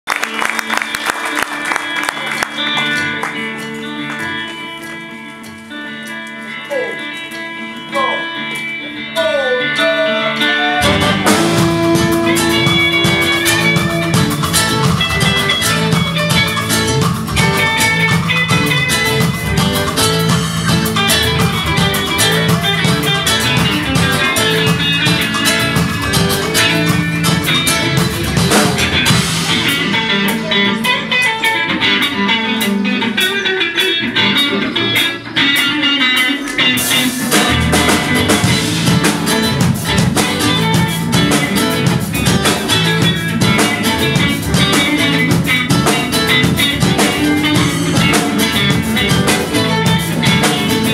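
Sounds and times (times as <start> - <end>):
electric guitar: 0.0 - 50.9
live reggae band: 0.1 - 50.9.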